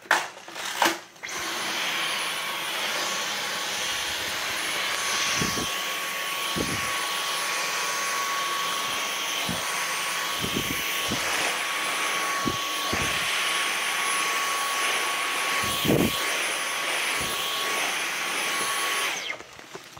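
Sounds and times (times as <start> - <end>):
vacuum cleaner running: 0.6 - 19.9.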